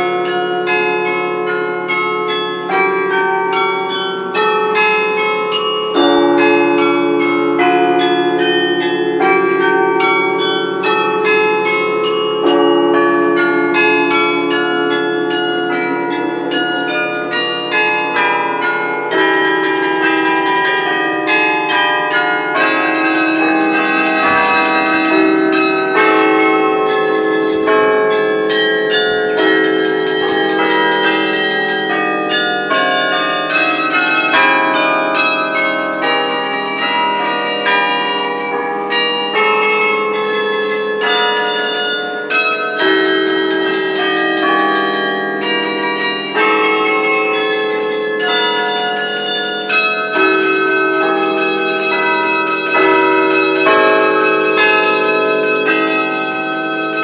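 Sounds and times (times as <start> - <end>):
carillon bell melody: 0.0 - 57.0
long low bells ringing: 0.0 - 57.0.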